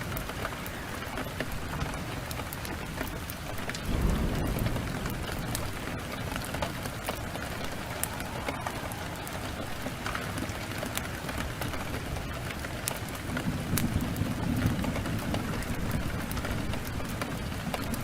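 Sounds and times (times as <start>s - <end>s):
heavy rain: 0.0s - 18.0s
low rumble of thunder: 0.0s - 18.0s
wood fire crackling: 0.0s - 18.0s.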